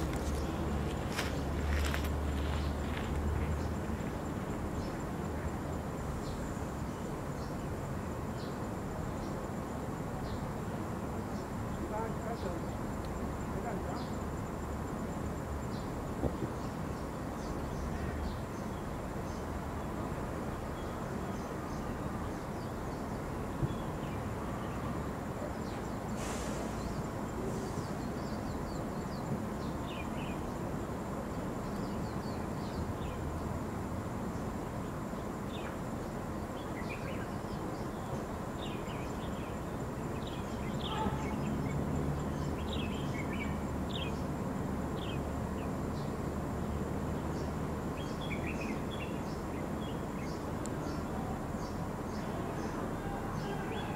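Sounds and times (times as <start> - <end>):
low rumble and hiss: 0.0 - 53.9.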